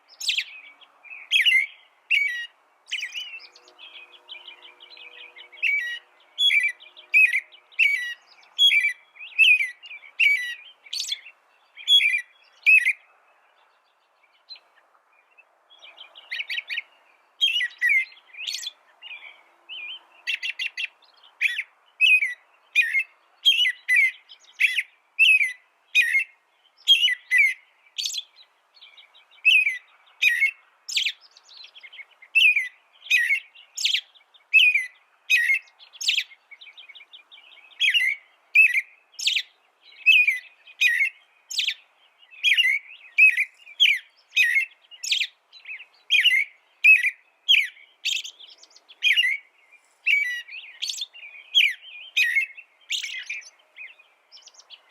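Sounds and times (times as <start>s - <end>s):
bird trill: 0.0s - 13.0s, 15.8s - 54.9s
songbird chirping: 0.0s - 54.9s.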